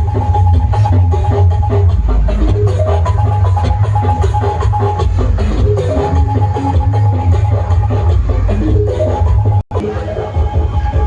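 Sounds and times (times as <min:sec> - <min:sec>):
bass-heavy dance music: 0:00.0 - 0:11.0.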